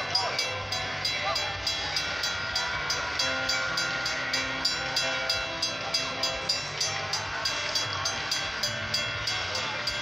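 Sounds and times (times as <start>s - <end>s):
railroad crossing bell ringing: 0.0s - 10.0s.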